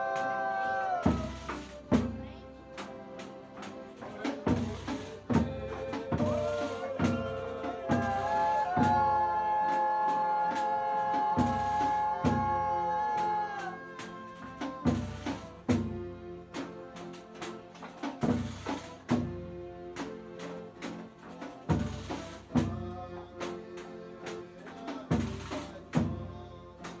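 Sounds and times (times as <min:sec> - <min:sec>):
drum beating steady pulse: 0:00.0 - 0:02.9, 0:03.6 - 0:17.0, 0:17.6 - 0:23.6, 0:24.7 - 0:27.0.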